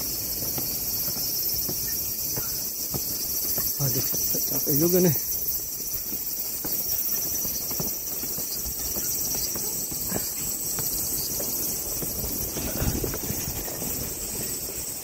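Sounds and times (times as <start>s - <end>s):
high-pitched insect chorus: 0.0s - 15.0s
wind rumbling on microphone: 0.0s - 15.0s.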